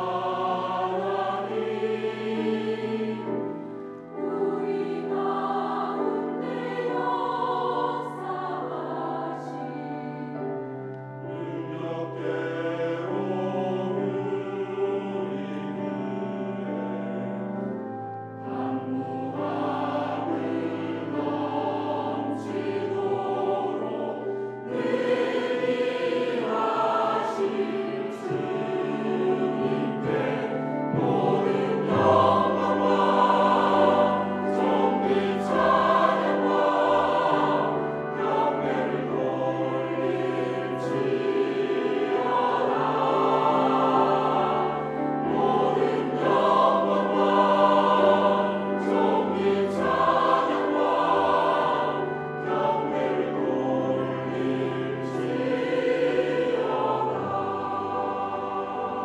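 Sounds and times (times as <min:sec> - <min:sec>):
mixed choir singing anthem: 0:00.0 - 0:59.0.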